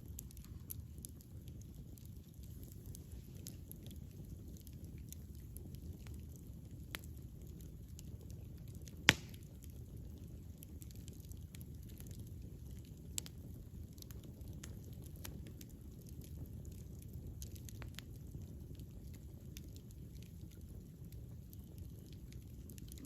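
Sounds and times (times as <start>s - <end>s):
campfire pops and snaps: 0.0s - 23.0s
low rumble of flames: 0.0s - 23.0s.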